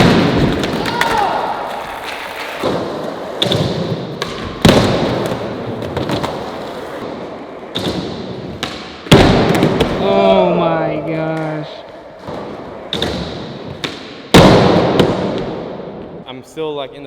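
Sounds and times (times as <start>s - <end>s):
skateboard wheels rolling: 0.0s - 14.0s.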